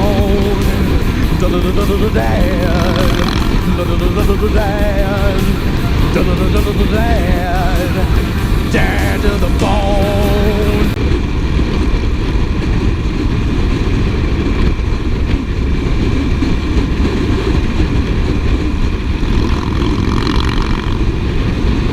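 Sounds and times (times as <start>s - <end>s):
motorcycle engine rumbling: 0.0s - 21.9s.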